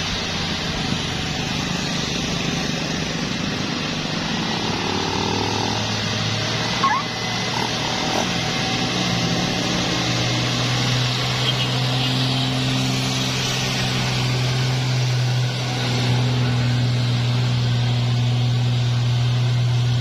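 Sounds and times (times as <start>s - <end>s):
diesel truck engine droning: 0.0s - 20.0s
tyres hissing on road: 0.0s - 20.0s.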